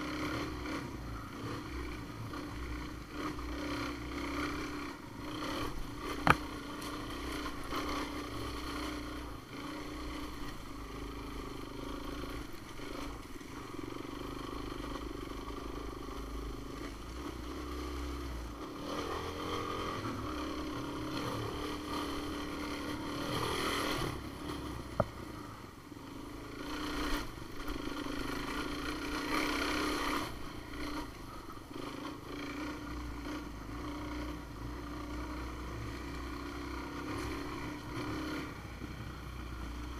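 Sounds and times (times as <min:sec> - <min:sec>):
off-road vehicle engine droning: 0:00.0 - 0:39.9.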